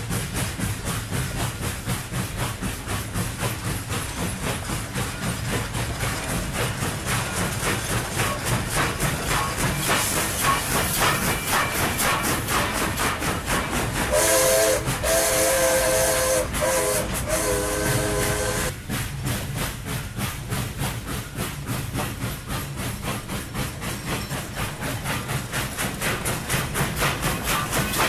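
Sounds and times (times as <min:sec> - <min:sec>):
steam hiss: 0:00.0 - 0:28.0
steam locomotive chuffing: 0:00.0 - 0:28.0.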